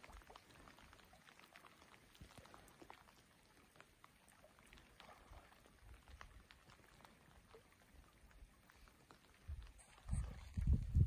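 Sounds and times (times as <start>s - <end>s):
faint crackles and clicks: 0.0s - 11.0s.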